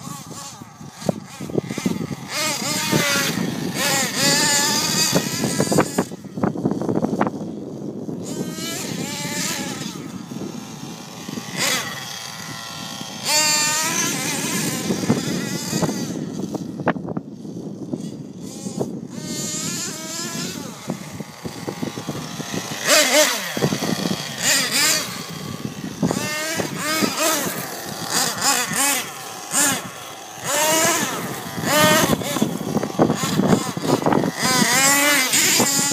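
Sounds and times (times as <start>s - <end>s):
rc truck nitro engine revving: 0.0s - 35.9s.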